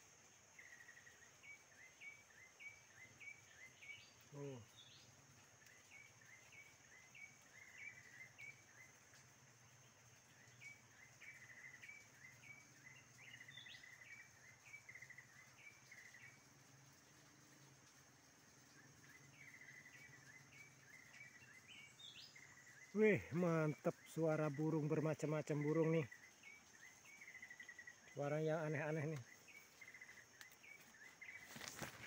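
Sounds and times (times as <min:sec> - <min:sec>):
faint birds chirping and trilling: 0:00.0 - 0:32.0
high insect whine: 0:00.0 - 0:32.0.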